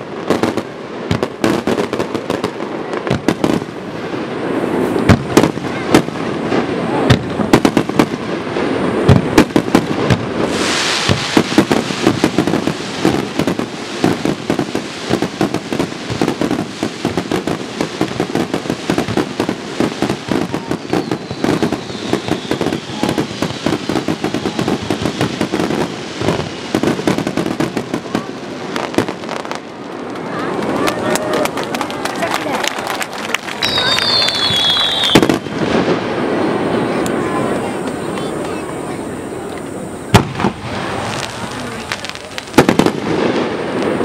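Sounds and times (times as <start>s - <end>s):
hissing crackle of fireworks: 0.0s - 44.0s.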